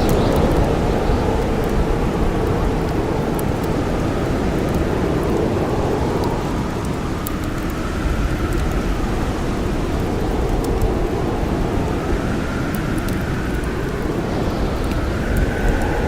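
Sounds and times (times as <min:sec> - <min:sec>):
campfire crackling: 0:00.0 - 0:16.0
wind howling: 0:00.0 - 0:16.0.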